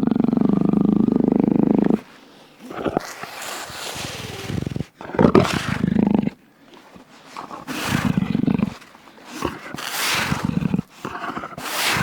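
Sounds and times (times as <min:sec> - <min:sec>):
jaguar rasping grunts: 0:00.0 - 0:06.4, 0:07.2 - 0:12.0.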